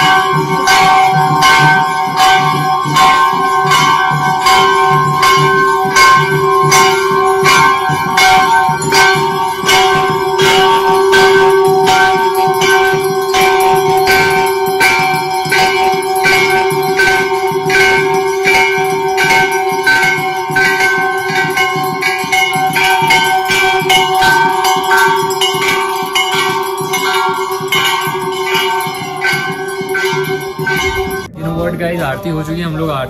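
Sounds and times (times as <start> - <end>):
sustained ringing tone: 0.0 - 32.5
temple bells striking: 0.0 - 33.0.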